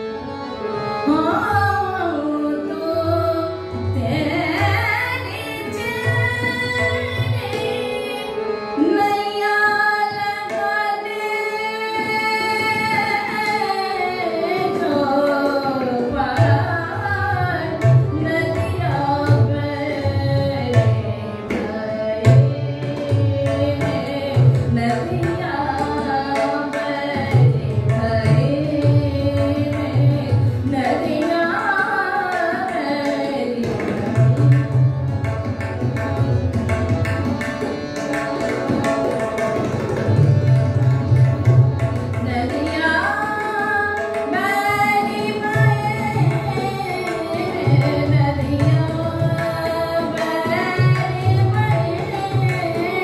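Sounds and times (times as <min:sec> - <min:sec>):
harmonium: 0:00.0 - 0:53.0
tabla: 0:00.0 - 0:53.0.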